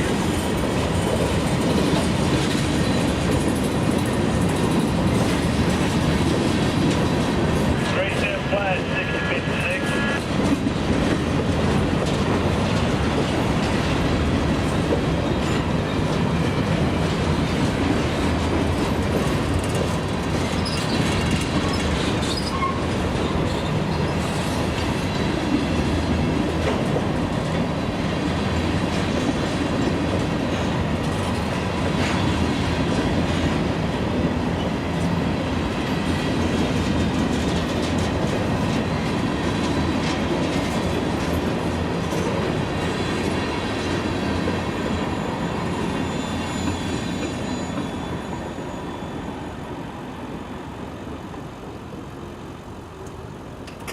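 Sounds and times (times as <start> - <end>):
freight train cars rolling past: 0.0 - 53.9.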